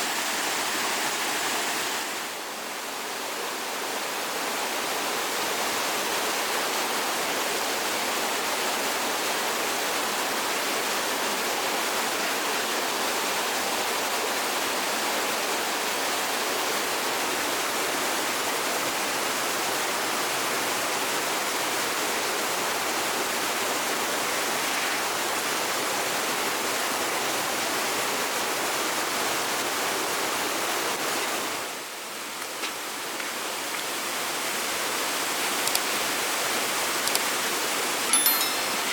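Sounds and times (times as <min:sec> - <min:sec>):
flowing water rushing: 0:00.0 - 0:38.1.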